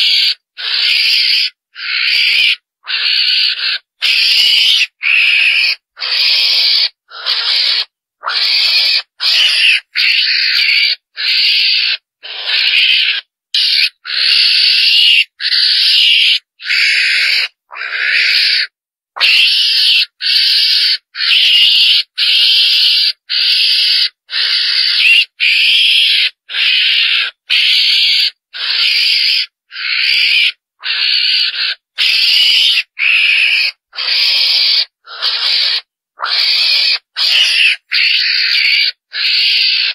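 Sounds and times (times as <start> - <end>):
rasping high-pitched animal calls: 0.0 - 39.9.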